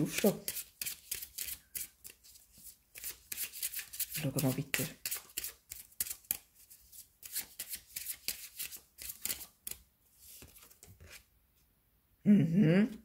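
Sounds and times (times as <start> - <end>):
cards being shuffled: 0.0 - 11.3.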